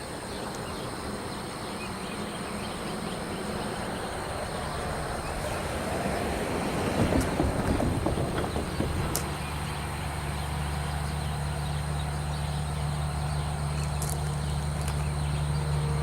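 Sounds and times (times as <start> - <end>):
rough rail noise: 1.5 - 16.0
engine idling: 2.0 - 16.0.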